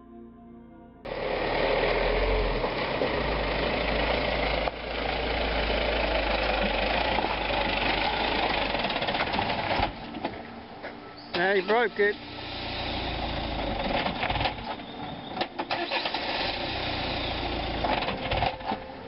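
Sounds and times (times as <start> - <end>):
suv engine rumbling: 1.1 - 19.0.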